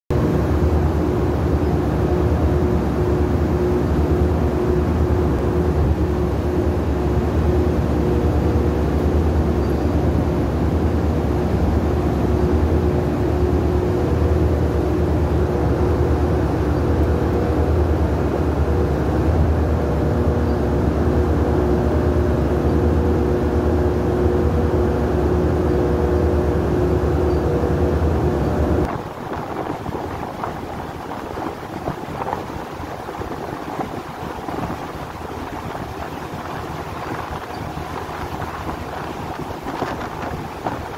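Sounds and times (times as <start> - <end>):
large machinery drone: 0.1 - 40.9.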